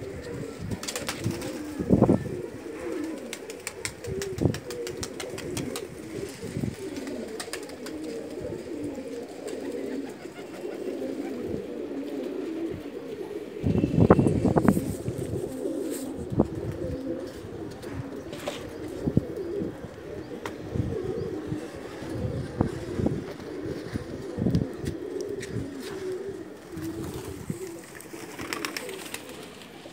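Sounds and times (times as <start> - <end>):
pigeons cooing: 0.0 - 29.9.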